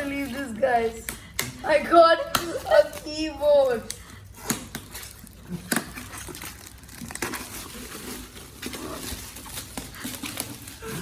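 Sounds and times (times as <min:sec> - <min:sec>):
wrapping paper crinkling: 0:01.9 - 0:11.0.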